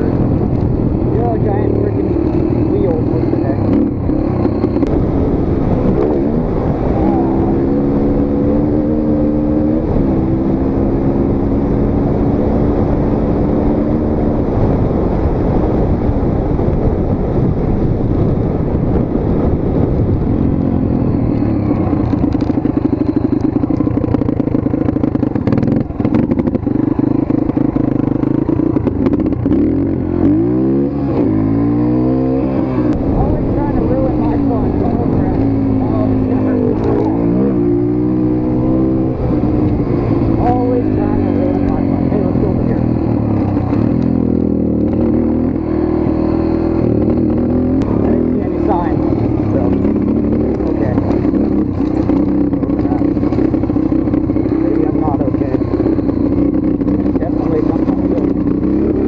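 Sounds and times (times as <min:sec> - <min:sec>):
dirt bike engine revving: 0:00.0 - 0:14.8, 0:20.6 - 0:59.0.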